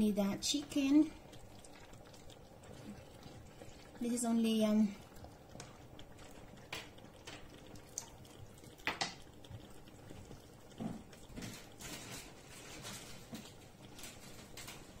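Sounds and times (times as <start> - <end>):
sauce bubbling in frying pan: 0.0 - 15.0.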